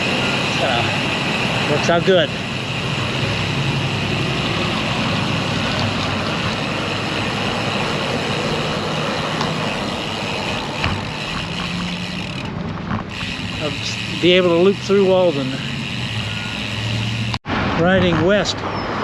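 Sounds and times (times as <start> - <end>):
low engine hum: 0.0 - 17.5
road traffic noise: 0.0 - 19.0.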